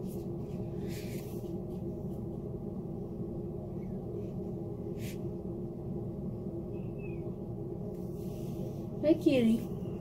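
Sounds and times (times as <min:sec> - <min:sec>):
steady low hum with tones: 0:00.0 - 0:10.0.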